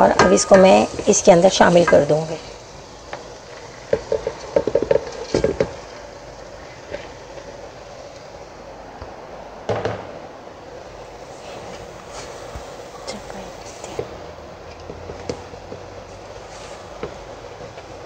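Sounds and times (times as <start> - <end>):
frying hiss: 0.0 - 18.0.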